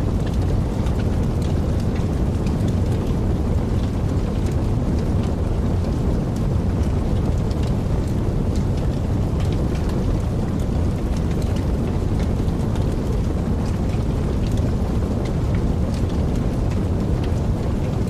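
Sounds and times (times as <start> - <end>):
fire crackles and pops: 0.0 - 18.0
flames rumbling: 0.0 - 18.0.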